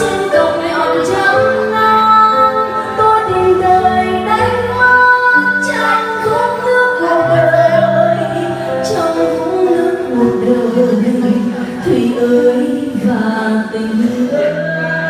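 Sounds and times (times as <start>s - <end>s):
keyboard chords: 0.0s - 15.0s
woman singing a slow ballad: 0.0s - 15.0s.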